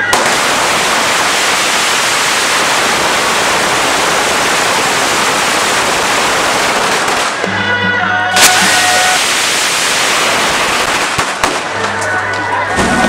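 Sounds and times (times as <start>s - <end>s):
firecrackers crackling: 0.0s - 7.7s, 8.3s - 13.0s.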